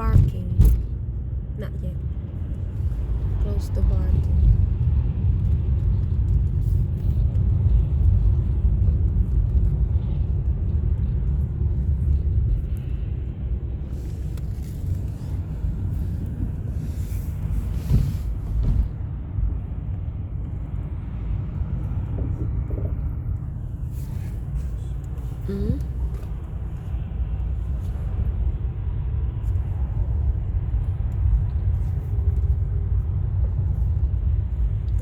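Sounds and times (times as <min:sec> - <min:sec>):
road noise inside moving vehicle: 0:00.0 - 0:35.0.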